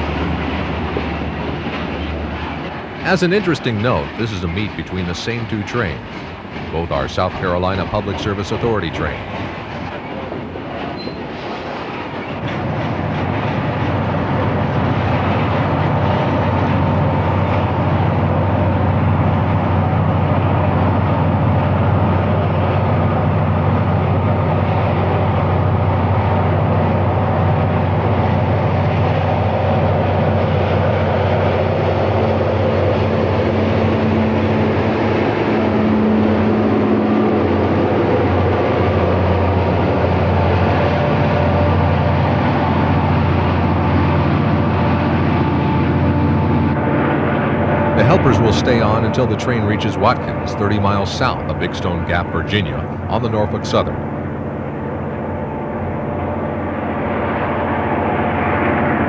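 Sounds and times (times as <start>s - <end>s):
diesel locomotive engines droning: 0.0s - 59.0s
freight train rolling past: 0.0s - 59.0s.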